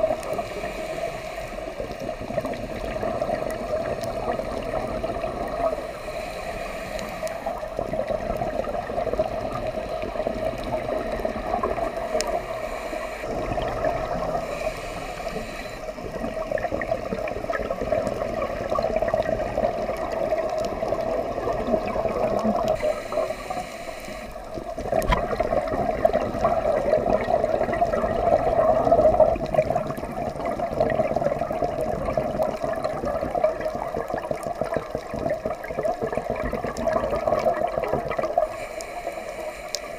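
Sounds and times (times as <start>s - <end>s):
steady watery hiss: 0.0s - 39.9s
regulator exhaust bubbles gurgling: 1.7s - 5.8s, 7.4s - 12.4s, 13.3s - 14.6s, 15.3s - 22.9s, 24.5s - 38.6s.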